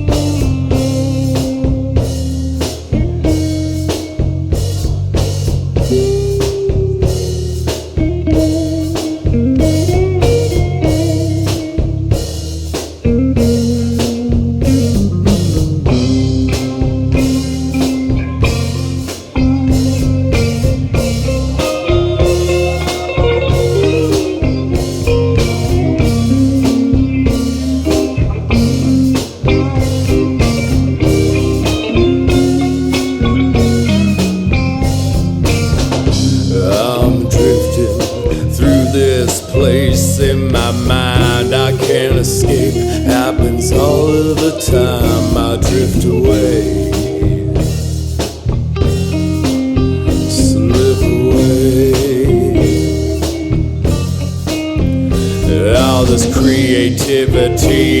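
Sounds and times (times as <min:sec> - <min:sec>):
bass: 0:00.0 - 0:58.0
drums: 0:00.0 - 0:58.0
electric guitar line: 0:00.0 - 0:58.0
rock band playing live: 0:00.0 - 0:58.0.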